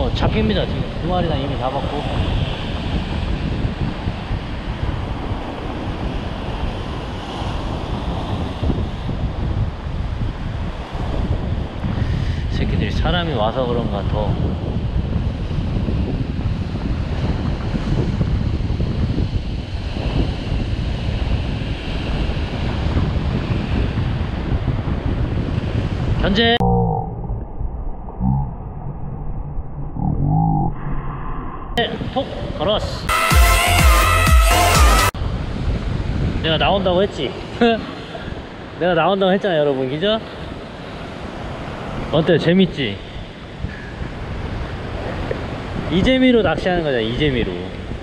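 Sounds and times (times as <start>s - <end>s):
wind noise on microphone: 0.0s - 33.2s, 35.0s - 48.0s.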